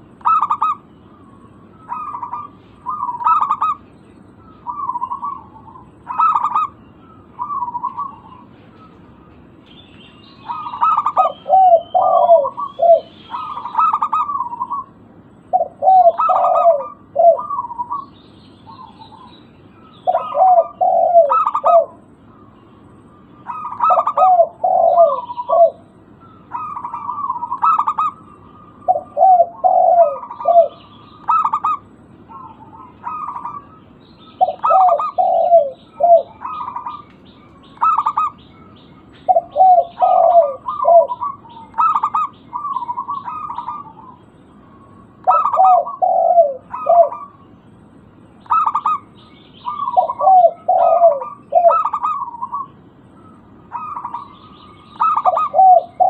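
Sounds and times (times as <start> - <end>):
dove cooing: 0.0 - 9.4, 10.3 - 47.5, 48.4 - 56.0
faint higher bird twittering: 0.0 - 56.0.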